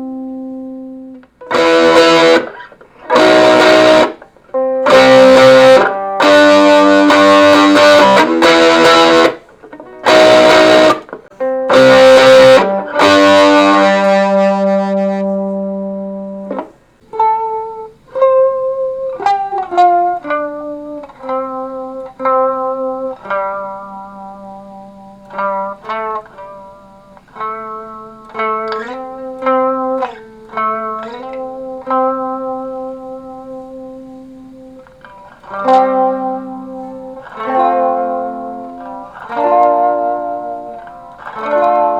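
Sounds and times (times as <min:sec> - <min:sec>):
electric guitar playing: 0:00.0 - 0:41.9.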